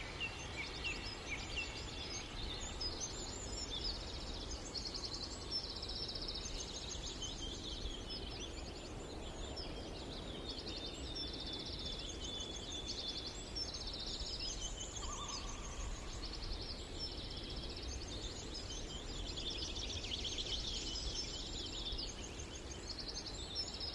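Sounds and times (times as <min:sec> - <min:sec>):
birds singing trills: 0:00.0 - 0:23.9.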